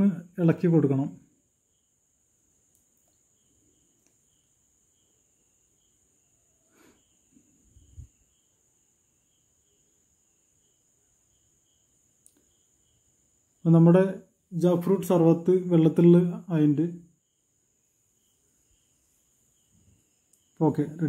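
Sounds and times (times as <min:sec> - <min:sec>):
faint insect chirping: 0:00.0 - 0:21.0.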